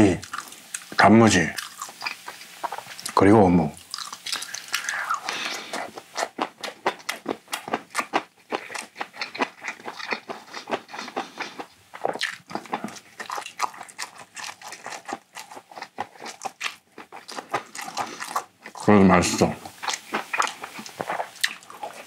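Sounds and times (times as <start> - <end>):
chewing with wet mouth clicks: 0.2 - 3.2, 3.8 - 18.9, 19.7 - 22.0.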